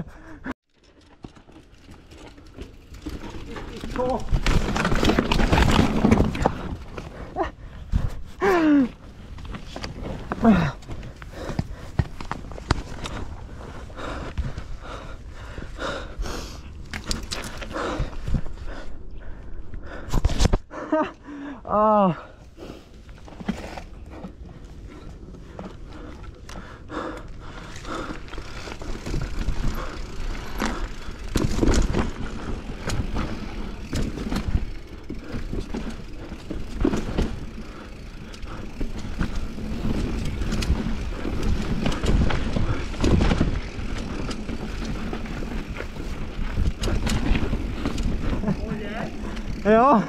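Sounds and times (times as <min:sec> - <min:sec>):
bike knocking and rattling: 0:00.7 - 0:16.1, 0:16.8 - 0:18.7, 0:23.0 - 0:50.0
bike tyres crunching over dirt: 0:00.8 - 0:18.8, 0:22.5 - 0:50.0.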